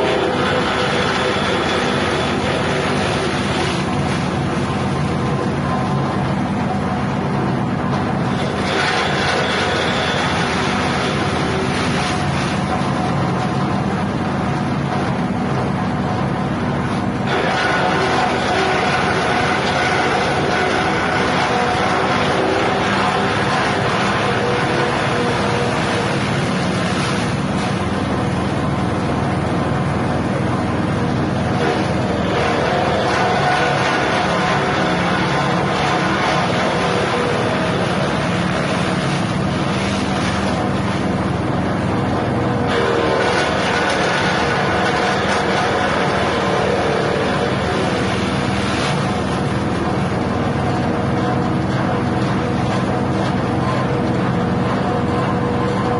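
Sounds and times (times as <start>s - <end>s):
petrol engine running: 0.0s - 55.9s.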